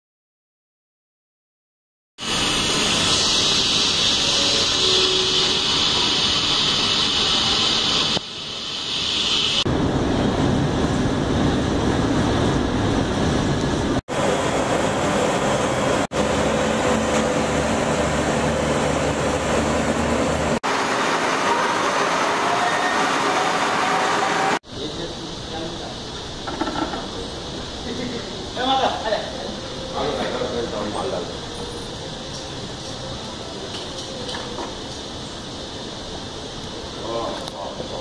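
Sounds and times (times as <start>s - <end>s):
loud industrial noise: 2.2s - 38.0s.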